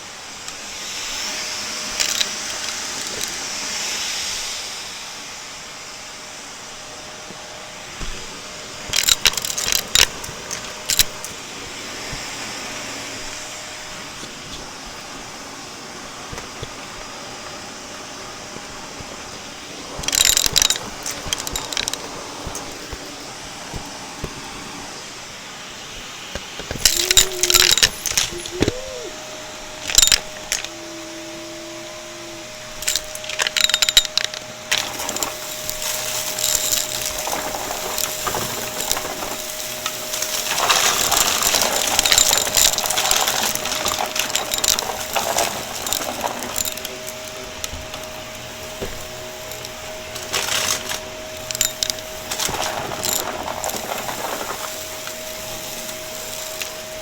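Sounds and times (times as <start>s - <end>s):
faint steady hum: 0.0s - 57.0s
vacuum cleaner parts clicking and rattling: 0.4s - 4.6s, 6.9s - 57.0s.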